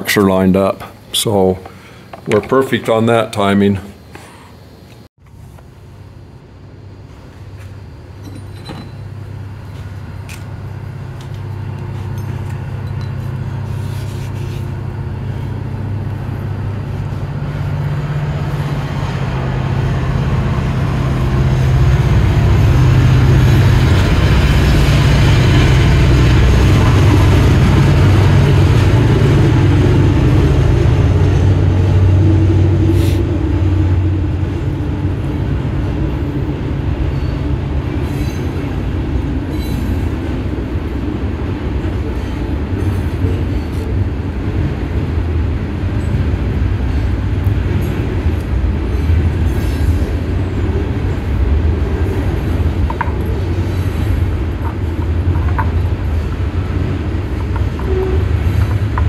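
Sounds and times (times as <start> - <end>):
low mechanical rumble: 3.2 - 59.0.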